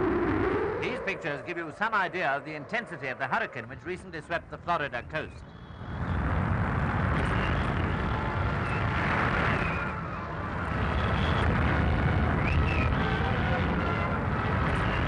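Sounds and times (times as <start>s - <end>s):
roaring wind: 0.0s - 4.7s, 5.4s - 15.0s.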